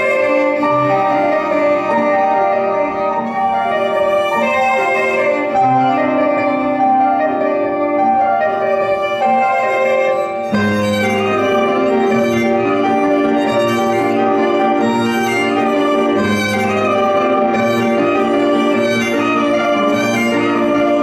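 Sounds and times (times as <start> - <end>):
piano chords: 0.0 - 21.0
violin melody: 0.0 - 21.0.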